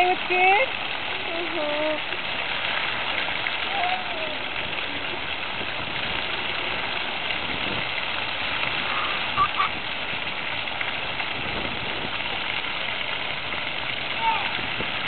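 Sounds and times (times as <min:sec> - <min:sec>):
fountain jets splashing on paving: 0:00.0 - 0:15.0.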